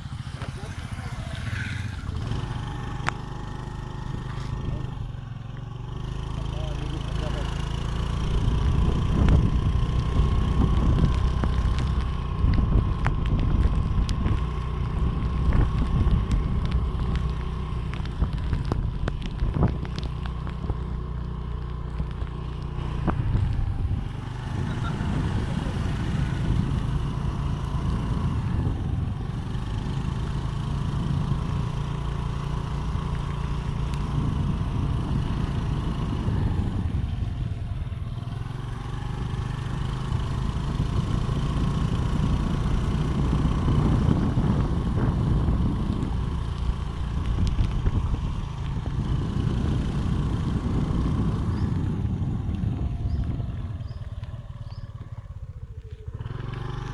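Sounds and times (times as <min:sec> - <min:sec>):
road and wind noise: 0:00.0 - 0:56.9
vehicle engine rumble: 0:00.0 - 0:56.9.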